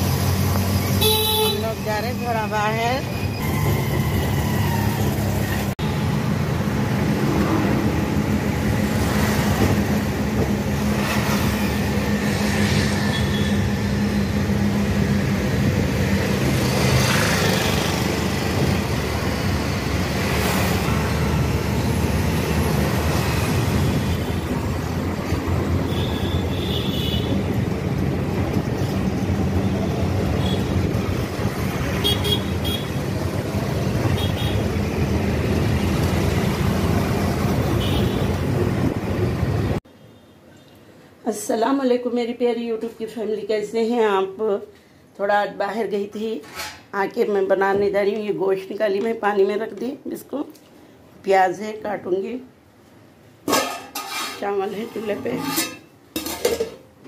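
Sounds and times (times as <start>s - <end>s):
road and city traffic noise: 0.0s - 57.0s.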